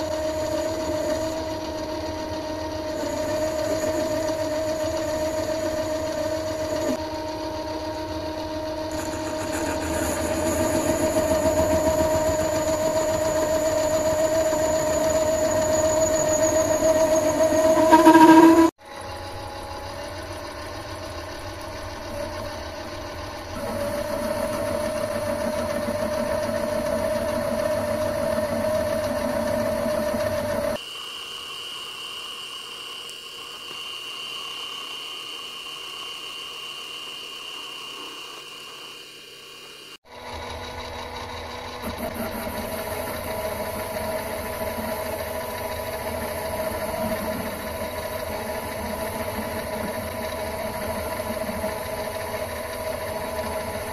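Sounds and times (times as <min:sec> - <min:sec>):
metal lathe motor and gear whine: 0:00.0 - 0:53.9.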